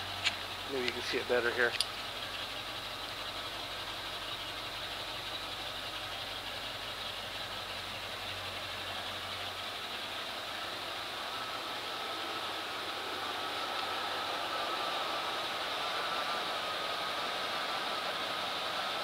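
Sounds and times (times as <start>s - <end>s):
machine humming and hissing: 0.0s - 19.0s.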